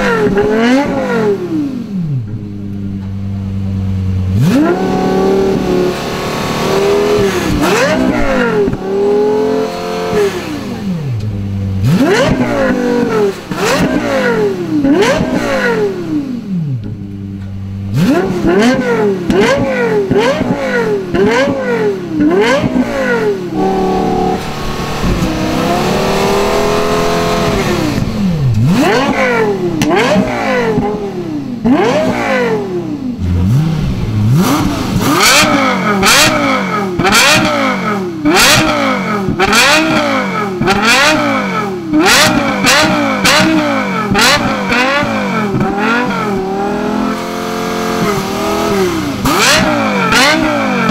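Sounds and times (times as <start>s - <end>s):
car engine revving hard: 0.0s - 2.2s, 4.2s - 16.7s, 17.8s - 50.9s.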